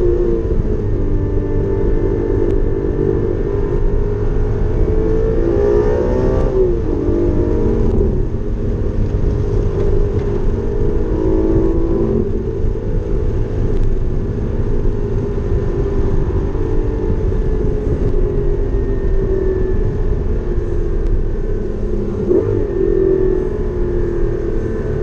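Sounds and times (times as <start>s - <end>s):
car engine running at low revs: 0.0s - 25.0s
tyre and road rumble: 0.0s - 25.0s.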